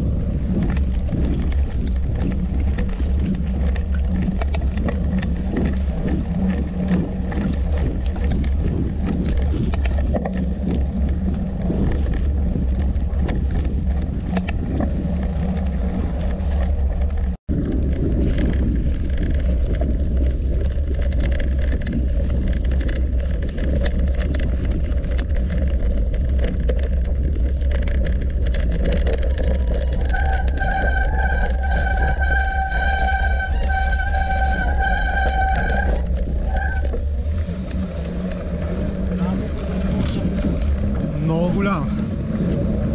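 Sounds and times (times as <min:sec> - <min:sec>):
bike clicks and rattles: 0:00.0 - 0:42.9
wind rumble: 0:00.0 - 0:42.9.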